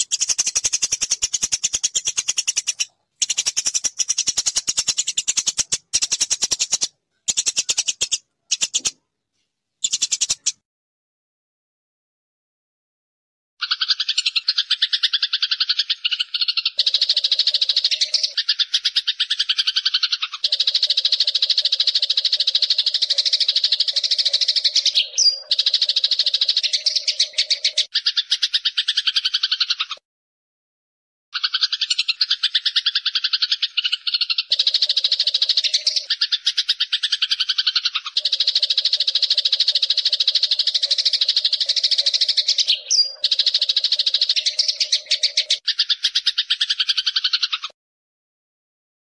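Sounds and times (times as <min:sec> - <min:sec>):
sparrow chirping: 0:00.0 - 0:09.0, 0:09.8 - 0:10.6, 0:13.6 - 0:30.0, 0:31.4 - 0:47.7.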